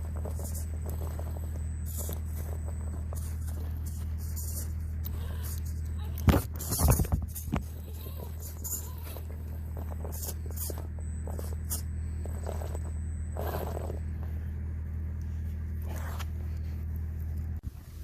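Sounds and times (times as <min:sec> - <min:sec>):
toy car motor humming: 0:00.0 - 0:14.4.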